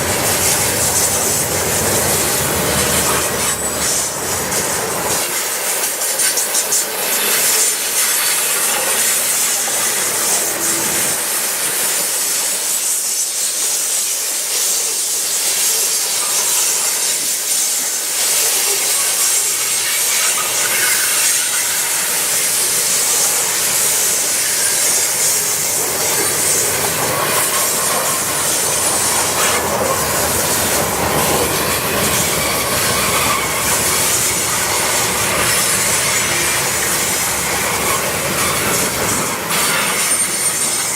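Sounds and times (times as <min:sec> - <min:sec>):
hiss: 0:00.0 - 0:40.9
train wheels clattering on rails: 0:00.0 - 0:40.9.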